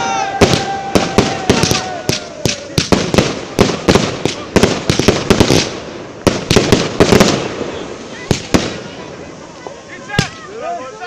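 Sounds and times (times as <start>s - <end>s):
fireworks bangs: 0.0s - 10.5s.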